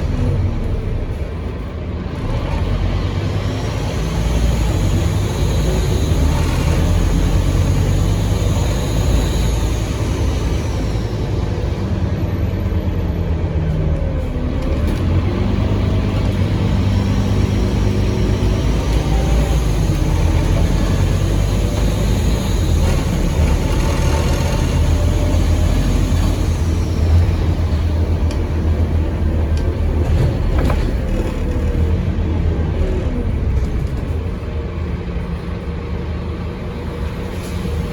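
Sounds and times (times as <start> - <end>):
bus diesel engine running: 0.0 - 37.9.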